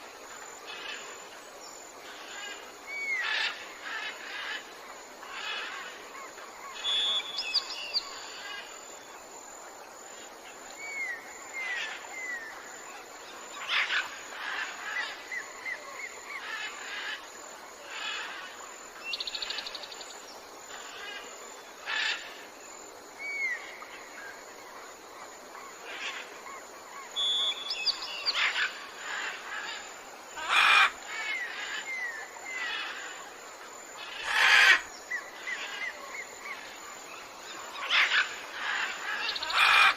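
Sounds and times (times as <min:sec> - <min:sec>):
outdoor ambience hiss: 0:00.0 - 0:39.9
wild birds chirping and trilling: 0:00.0 - 0:39.9.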